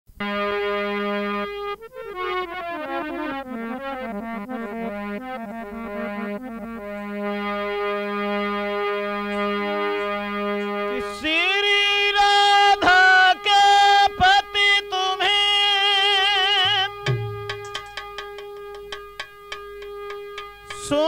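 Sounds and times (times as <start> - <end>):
electronic keyboard music: 0.2 - 21.0.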